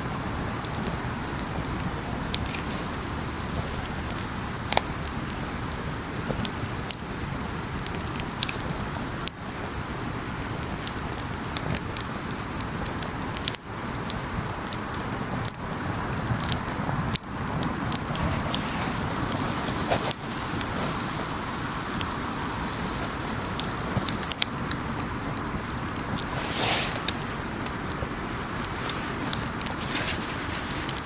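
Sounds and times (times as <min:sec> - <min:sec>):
burning wood crackling: 0:00.0 - 0:31.0
campfire flame hissing: 0:00.0 - 0:31.0.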